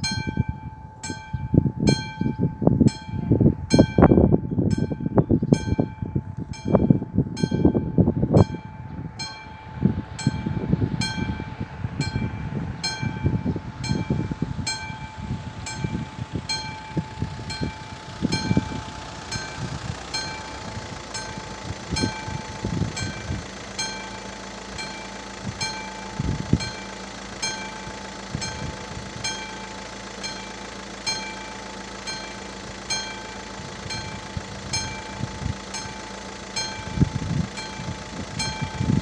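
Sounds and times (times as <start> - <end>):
level crossing warning bell: 0.0 - 39.0
low rumbling with thumps: 0.0 - 39.0.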